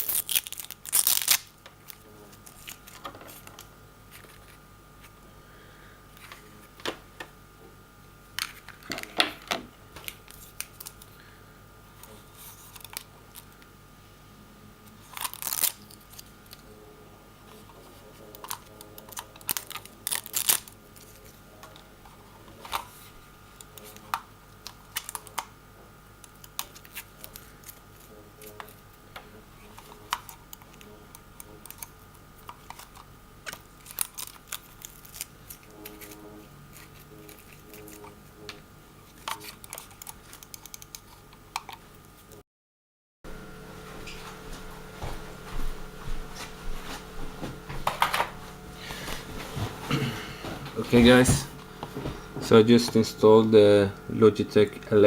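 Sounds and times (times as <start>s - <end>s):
faint steady hum: 0.0s - 42.4s, 43.3s - 55.0s.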